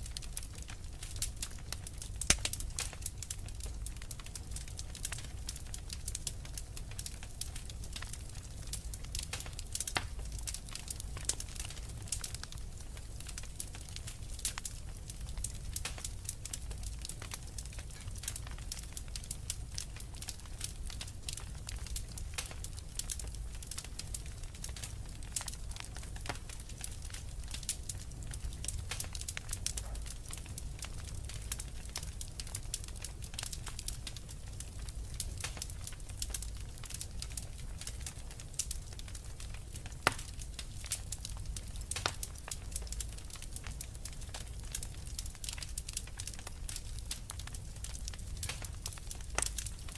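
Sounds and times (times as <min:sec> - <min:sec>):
fireplace fire crackling: 0:00.0 - 0:49.9.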